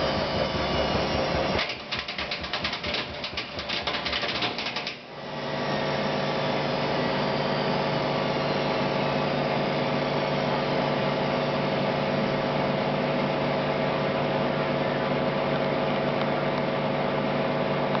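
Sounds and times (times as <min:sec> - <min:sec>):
washing machine spinning: 0:00.0 - 0:17.9.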